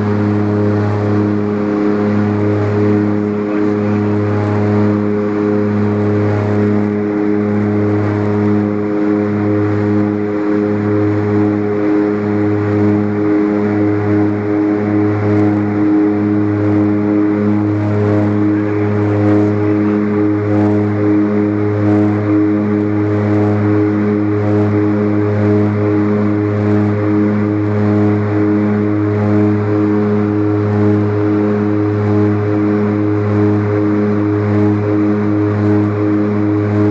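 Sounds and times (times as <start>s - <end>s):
propeller engines droning: 0.0s - 36.9s.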